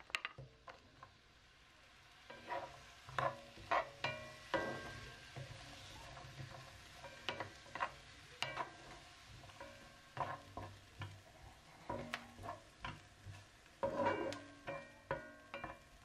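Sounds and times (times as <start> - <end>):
onions sizzling in a frying pan: 0.0 - 16.0
spatula scraping a pan: 2.2 - 16.0.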